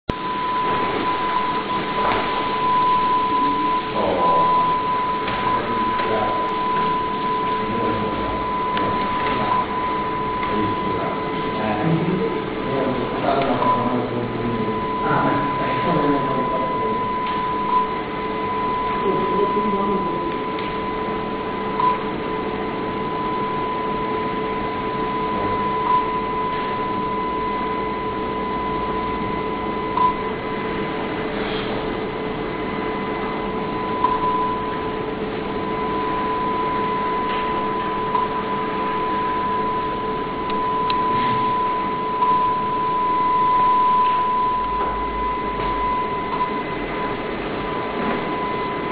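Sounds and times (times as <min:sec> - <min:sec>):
loudspeaker steady tone: 0:00.1 - 0:48.9
low steady hum: 0:00.1 - 0:48.9.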